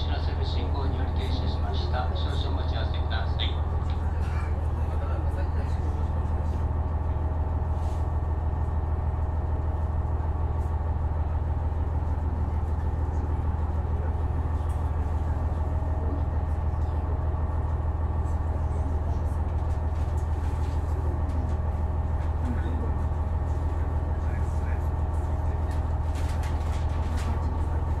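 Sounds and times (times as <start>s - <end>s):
railcar diesel engine drone: 0.0s - 28.0s.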